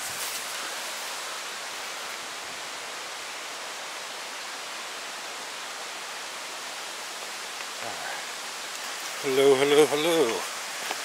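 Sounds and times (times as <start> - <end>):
rushing water hiss: 0.0 - 11.0.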